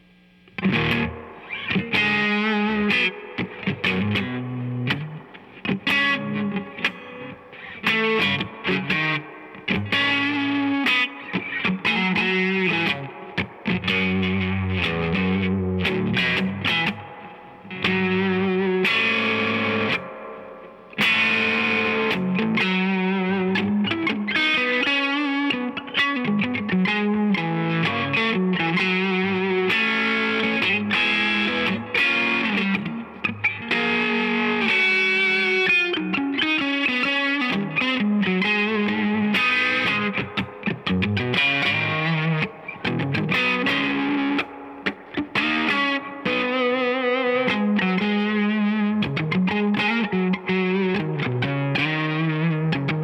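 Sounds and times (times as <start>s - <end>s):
overdriven electric guitar: 0.0s - 53.0s.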